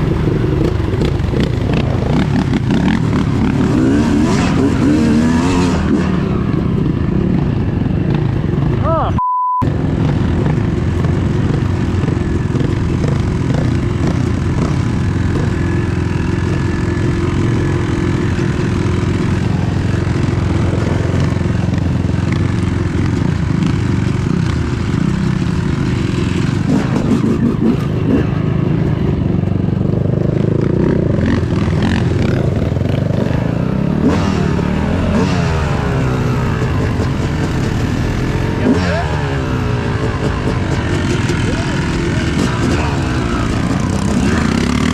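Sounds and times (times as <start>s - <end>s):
dirt bike engine revving: 0.0s - 8.9s, 9.6s - 29.3s, 30.1s - 44.9s.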